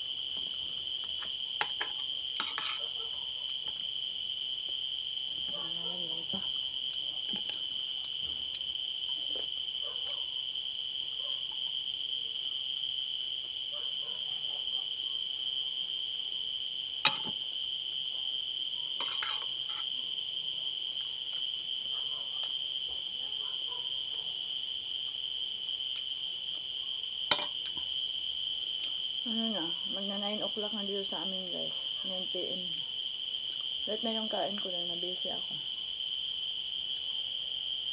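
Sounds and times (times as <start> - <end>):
crickets chirring: 0.0 - 37.9.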